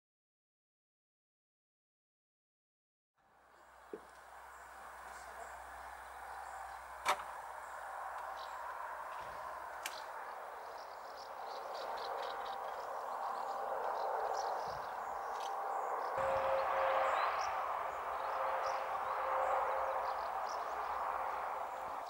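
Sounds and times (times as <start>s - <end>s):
steady rushing background noise: 3.8s - 22.0s.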